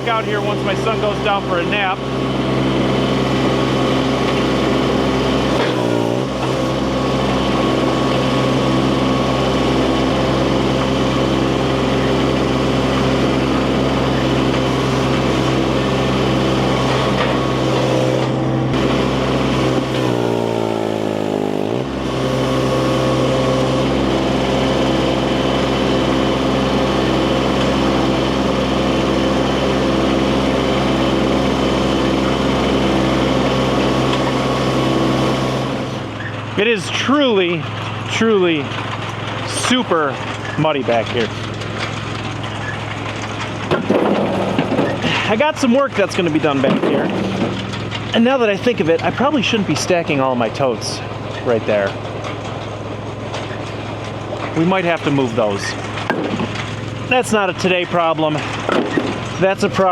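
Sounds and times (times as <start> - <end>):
skid steer engine at high throttle: 0.0 - 59.9.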